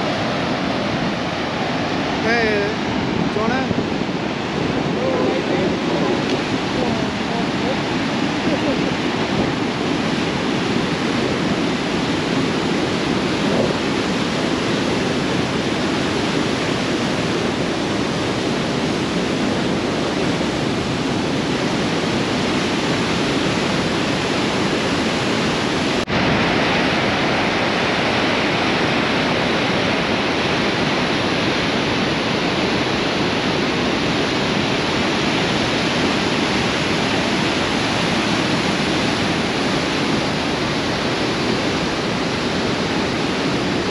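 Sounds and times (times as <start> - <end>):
whitewater rushing over rocks: 0.0 - 43.9.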